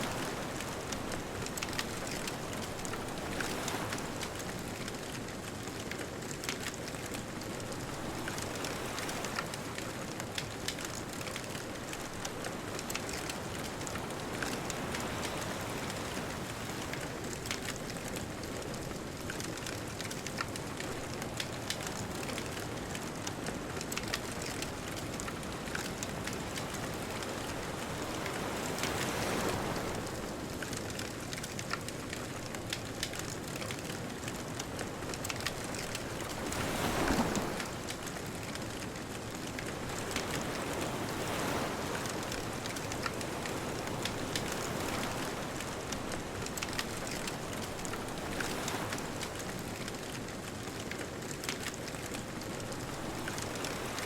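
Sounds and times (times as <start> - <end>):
bonfire crackling and popping: 0.0 - 54.0
ocean surf: 0.0 - 54.0.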